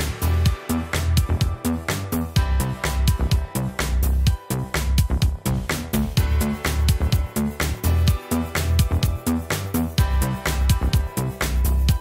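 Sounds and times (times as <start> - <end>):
dance music with heavy bass: 0.0 - 12.0.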